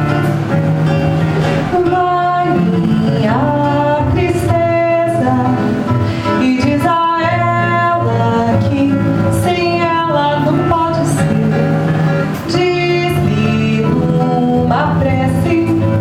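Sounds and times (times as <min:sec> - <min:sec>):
acoustic guitar: 0:00.0 - 0:16.0
woman singing: 0:01.4 - 0:16.0.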